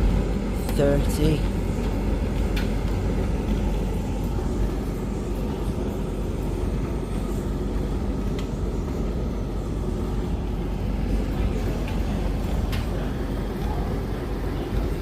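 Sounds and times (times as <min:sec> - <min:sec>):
washing machines rumbling and humming: 0:00.0 - 0:15.0.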